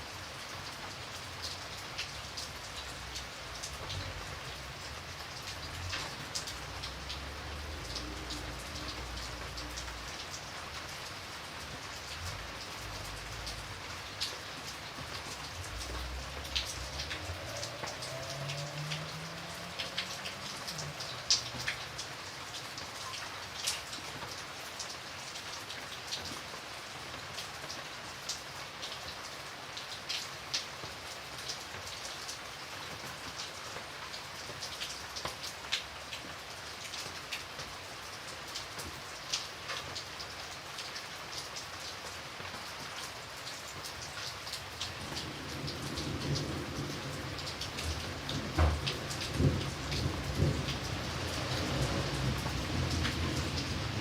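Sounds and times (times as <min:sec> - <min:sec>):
rain pattering: 0:00.0 - 0:54.0
raindrops ticking: 0:00.1 - 0:54.0.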